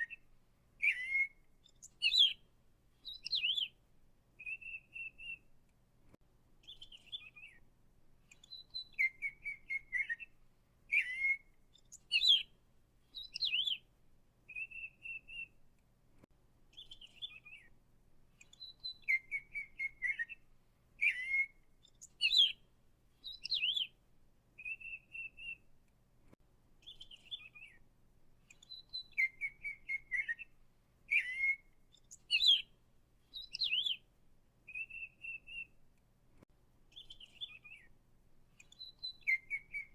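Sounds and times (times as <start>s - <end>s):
songbird chirping and trilling: 0.0s - 5.8s, 6.6s - 15.6s, 16.7s - 25.8s, 26.8s - 35.8s, 36.9s - 39.9s.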